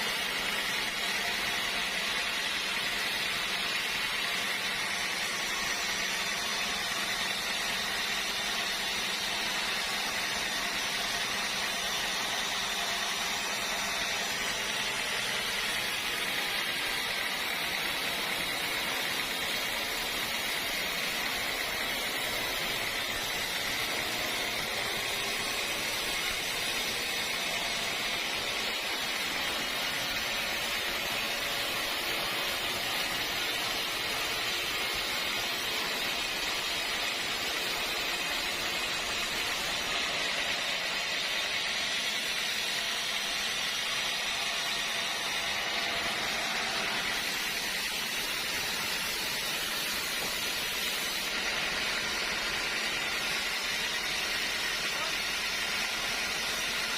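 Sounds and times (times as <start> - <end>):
sawmill machinery hissing: 0.0 - 56.9.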